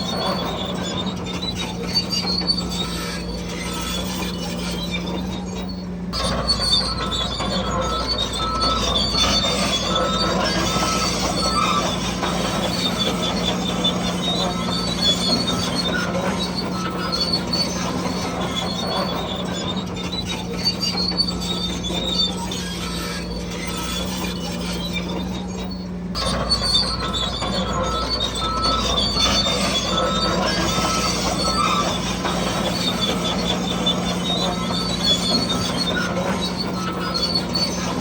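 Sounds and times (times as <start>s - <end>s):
electric motor and gearbox whine: 0.0s - 38.0s
tracks squealing and clattering: 0.0s - 38.0s.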